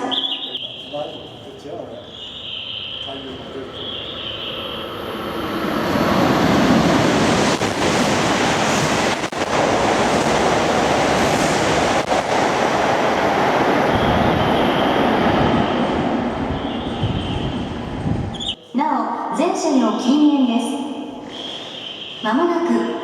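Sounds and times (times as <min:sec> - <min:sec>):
high-speed train passing: 0:00.1 - 0:18.6, 0:20.9 - 0:23.0.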